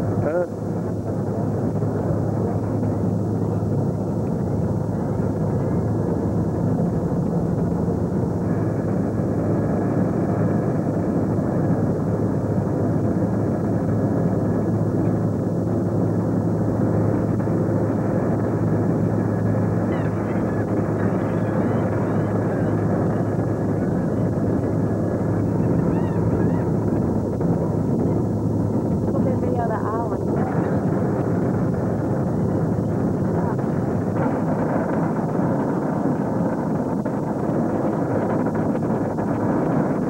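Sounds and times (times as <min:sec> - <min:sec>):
wind on microphone: 0:00.0 - 0:40.0.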